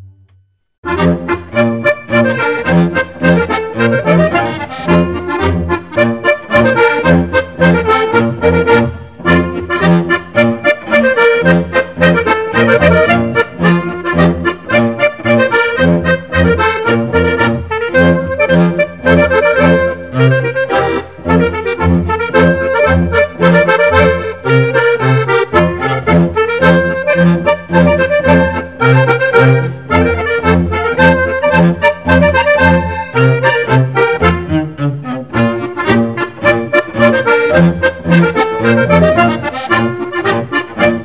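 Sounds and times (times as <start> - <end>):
instrumental music with bass beat: 0.0 - 41.0.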